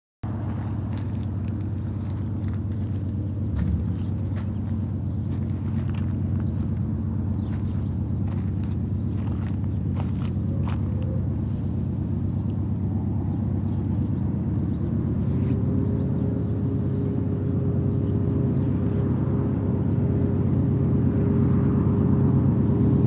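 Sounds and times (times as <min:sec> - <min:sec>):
locomotive engine rumble: 0:00.2 - 0:23.0.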